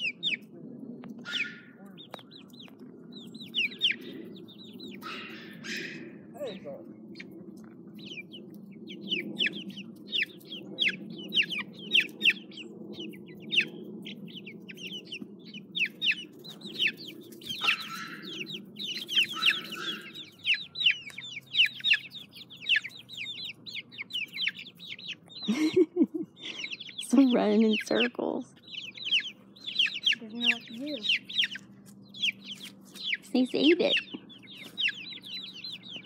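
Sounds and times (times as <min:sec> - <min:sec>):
young chickens peeping: 0:00.0 - 0:36.0.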